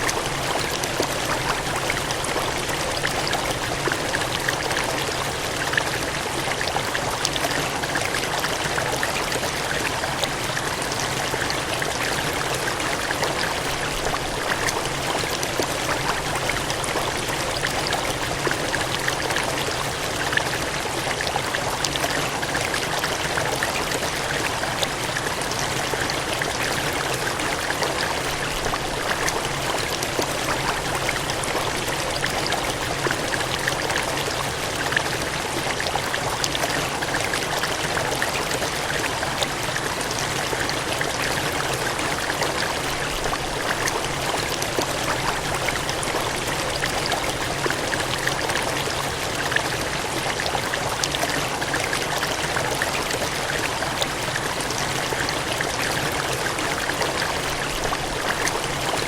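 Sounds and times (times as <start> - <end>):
cascading water rushing: 0.0 - 59.0.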